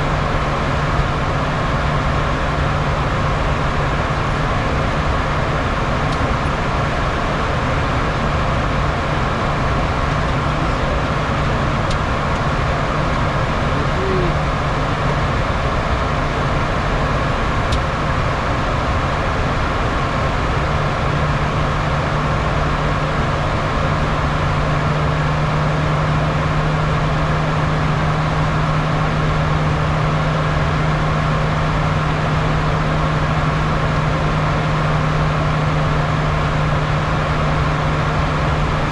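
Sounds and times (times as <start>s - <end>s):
constant low hum: 0.0s - 38.9s.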